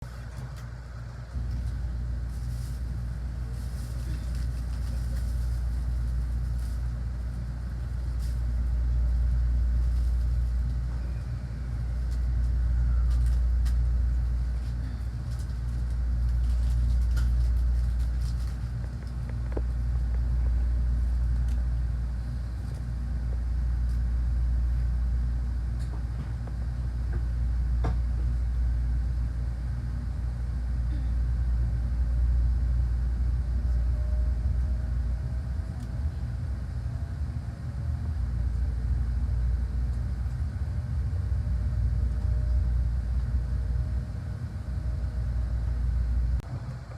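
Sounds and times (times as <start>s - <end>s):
train low rumble: 0.0s - 46.9s.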